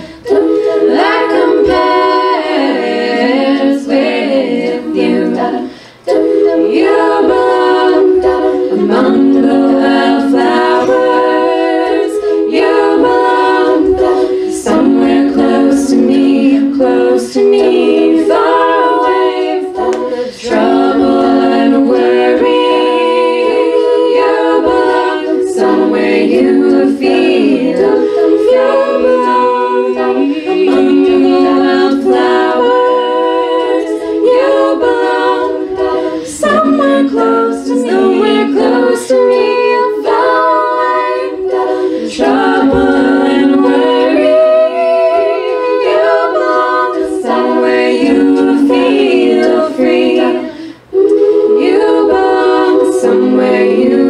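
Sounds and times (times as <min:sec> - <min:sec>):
women singing a cappella harmony: 0:00.0 - 0:54.0.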